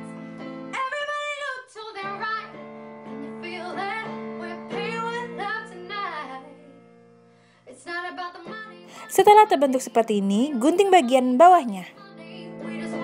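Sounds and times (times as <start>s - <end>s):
guitar accompaniment: 0.0s - 13.0s.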